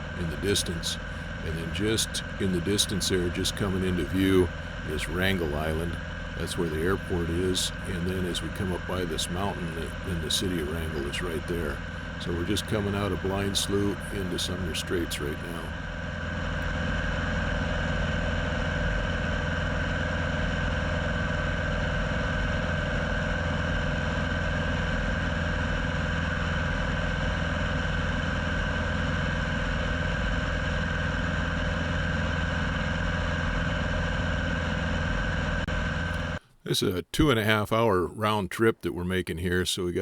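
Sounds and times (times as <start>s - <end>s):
plane engine and propeller droning: 0.0s - 36.7s.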